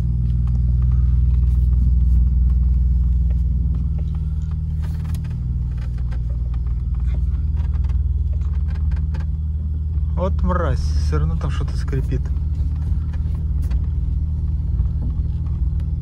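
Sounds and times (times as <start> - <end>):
engine and road drone: 0.0 - 16.0
interior trim creaks and clicks: 0.0 - 16.0.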